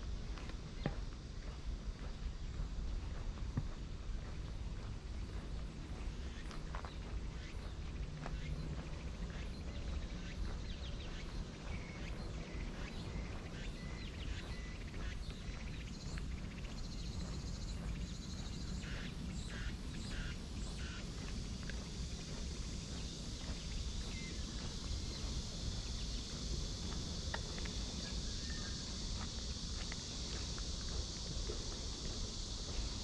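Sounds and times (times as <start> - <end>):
high cicada drone: 0.0 - 33.0.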